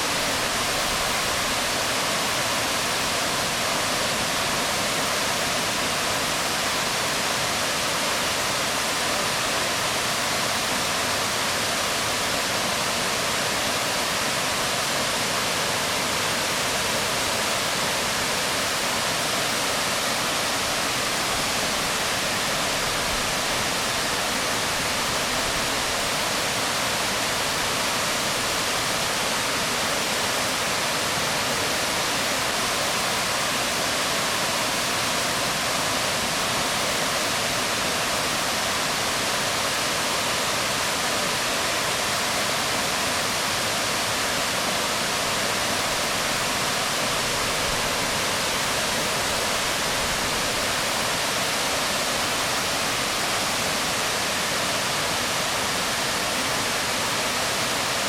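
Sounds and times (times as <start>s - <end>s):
waterfall falling onto rocks: 0.0s - 58.0s.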